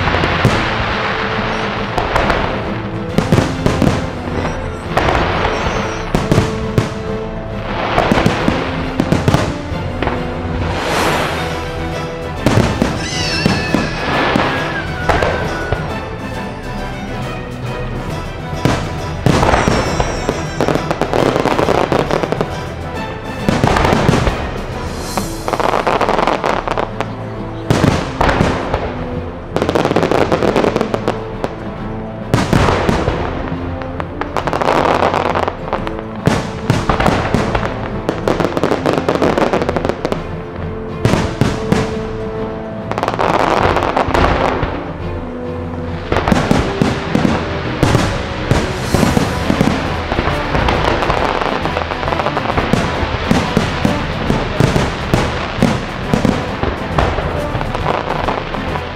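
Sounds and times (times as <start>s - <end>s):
fireworks bursting and crackling: 0.0s - 17.4s, 18.0s - 31.6s, 32.3s - 44.7s, 46.0s - 58.9s
show music: 0.0s - 58.9s.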